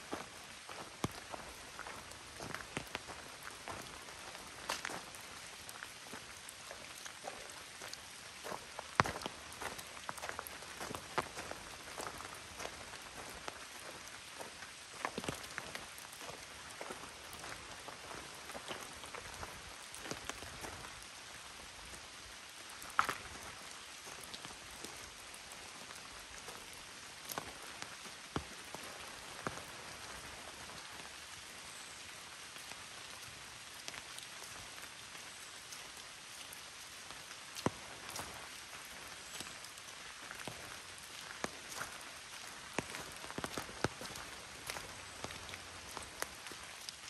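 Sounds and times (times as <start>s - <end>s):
rain hissing in woodland: 0.0s - 47.0s.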